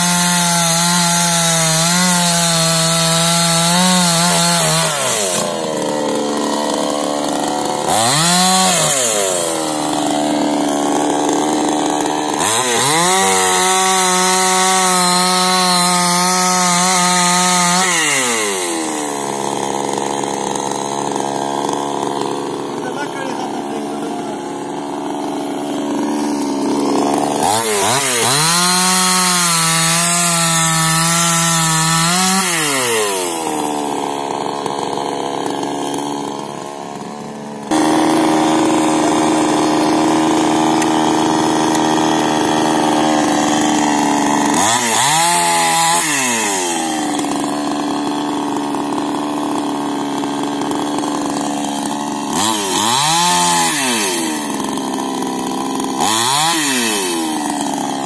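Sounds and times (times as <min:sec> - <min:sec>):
chainsaw cutting and idling: 0:00.0 - 0:58.0.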